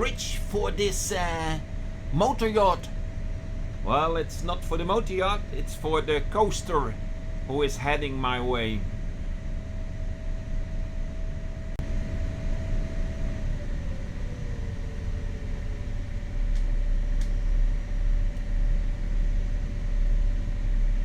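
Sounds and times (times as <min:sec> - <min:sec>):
boat engines droning: 0:00.0 - 0:18.7
engine whine: 0:00.0 - 0:21.0.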